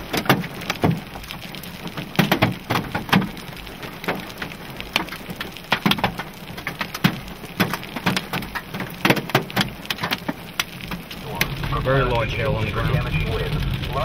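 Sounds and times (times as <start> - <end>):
falling rain hiss: 0.0 - 14.0
hailstones knocking on hard surfaces: 0.0 - 14.0.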